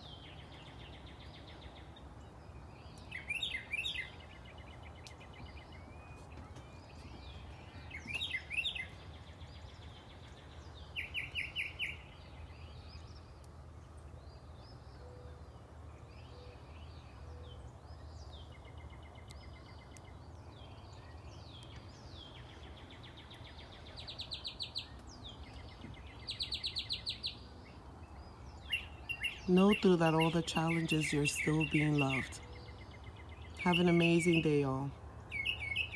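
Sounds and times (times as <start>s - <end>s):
songbirds trilling and chirping: 0.0s - 35.9s.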